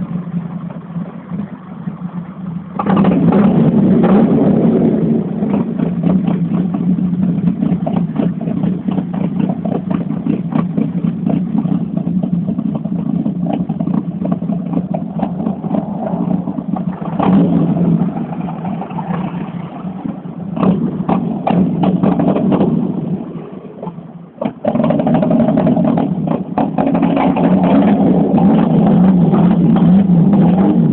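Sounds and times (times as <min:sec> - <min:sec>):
car engine revving with crackles: 0:00.0 - 0:30.9.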